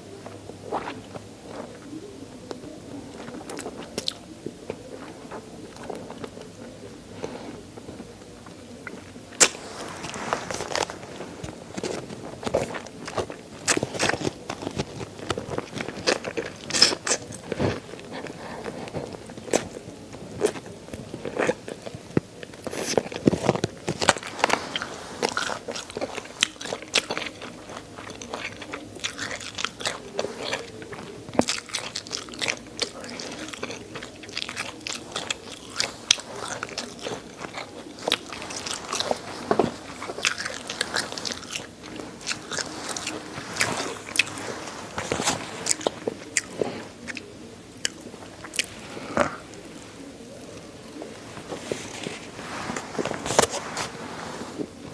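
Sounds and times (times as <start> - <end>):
bones crunching while chewing: 0.0 - 54.9.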